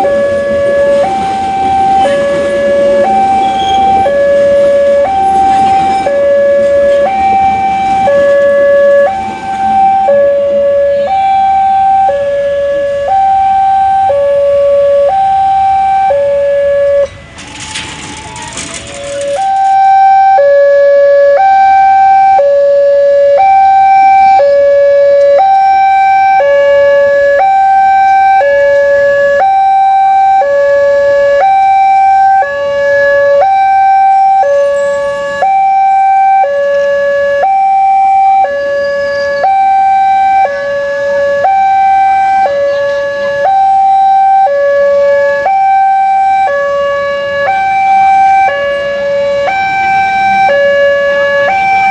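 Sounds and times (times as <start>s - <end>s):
two-tone siren: 0.0s - 51.9s.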